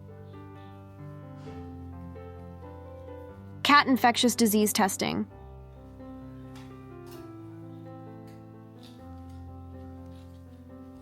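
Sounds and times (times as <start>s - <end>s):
soft piano background music: 0.0s - 11.0s.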